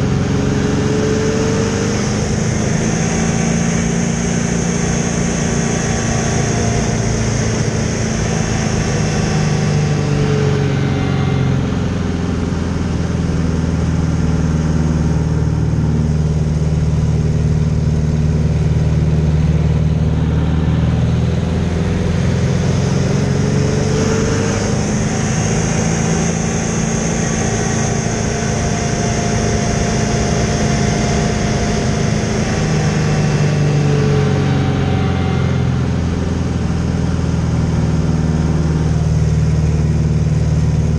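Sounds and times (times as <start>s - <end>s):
plane engine and propeller: 0.0s - 40.9s.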